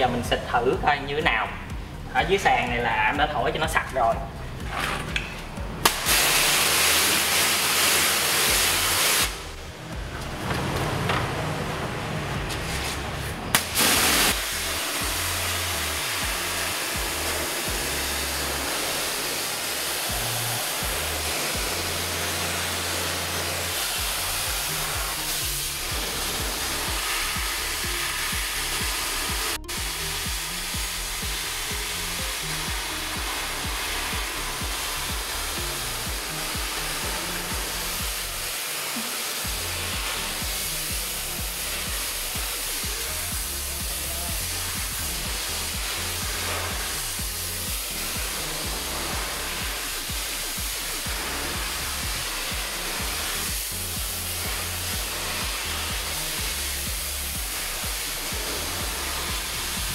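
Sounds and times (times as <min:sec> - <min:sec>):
background music: 0:00.0 - 0:59.9
pressure-washer jet hissing: 0:04.5 - 0:09.9, 0:10.6 - 0:59.9.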